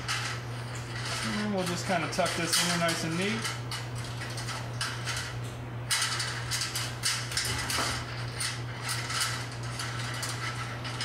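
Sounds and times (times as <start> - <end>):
steady low hum: 0.0 - 11.0
wires scraping in metal channel: 0.0 - 11.0.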